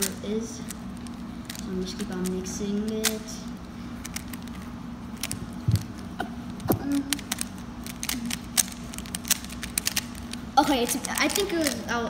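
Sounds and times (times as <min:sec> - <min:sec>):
puzzle cube twisting clicks: 0:00.0 - 0:11.9.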